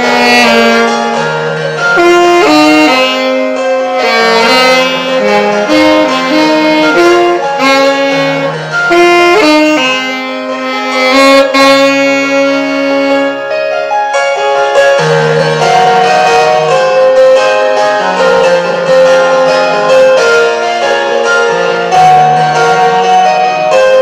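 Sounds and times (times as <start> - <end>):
alto saxophone melody: 0.0 - 24.0
backing accompaniment: 0.0 - 24.0.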